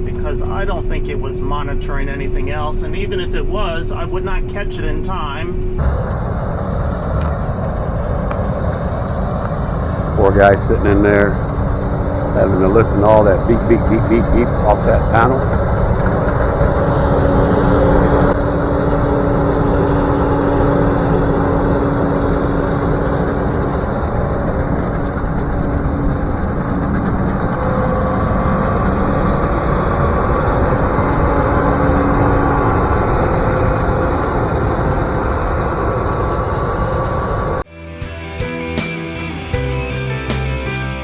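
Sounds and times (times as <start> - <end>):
combine harvester running: 5.8 - 37.7, 38.4 - 41.0.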